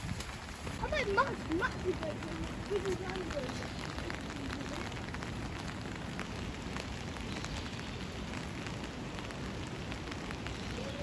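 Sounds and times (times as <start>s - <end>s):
crackling splashes: 0.0s - 11.0s
floodwater rushing: 0.0s - 11.0s.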